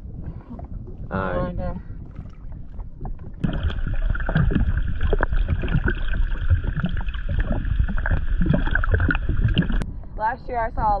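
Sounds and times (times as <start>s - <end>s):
underwater sloshing and bubbling: 0.0s - 11.0s.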